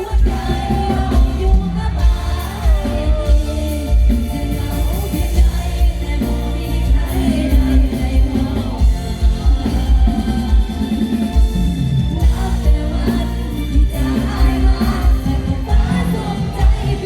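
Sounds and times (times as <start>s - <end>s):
young woman singing: 0.0s - 11.5s, 12.2s - 17.0s
heavy bass beat: 0.0s - 17.0s
live band music: 0.0s - 17.0s.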